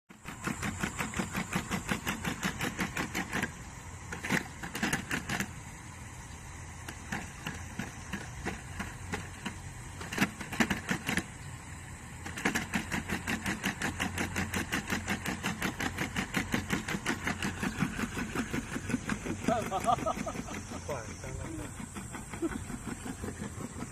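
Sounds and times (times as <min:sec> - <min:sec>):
motor whine: 0:00.2 - 0:23.9.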